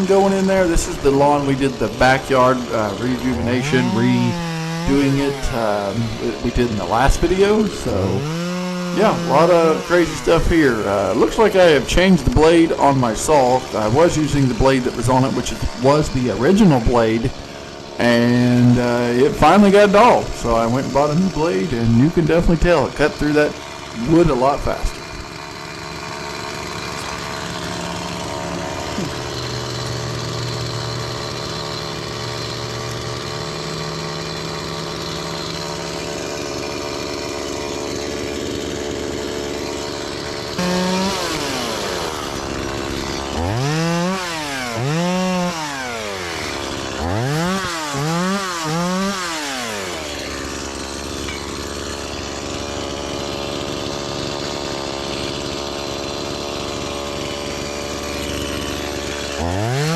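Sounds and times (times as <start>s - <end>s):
chainsaw running and revving: 0.0s - 59.9s.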